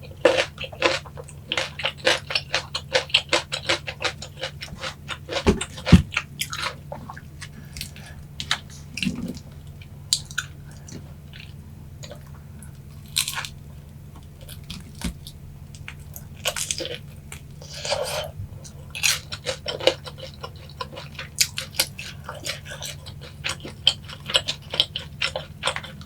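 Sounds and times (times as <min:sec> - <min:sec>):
crisp chewing crunches: 0:00.1 - 0:13.6, 0:14.2 - 0:26.0.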